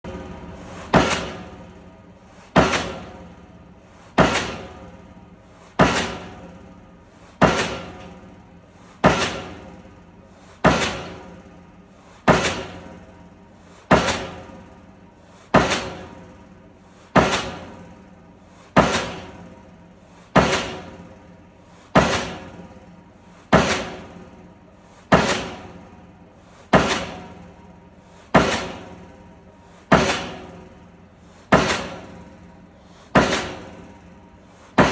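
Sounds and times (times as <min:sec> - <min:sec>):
pile hammer blows: 0:00.6 - 0:01.7, 0:02.3 - 0:04.9, 0:05.5 - 0:06.5, 0:07.1 - 0:08.2, 0:08.8 - 0:11.3, 0:12.0 - 0:13.0, 0:13.6 - 0:14.6, 0:15.2 - 0:16.2, 0:16.8 - 0:25.8, 0:26.4 - 0:34.9.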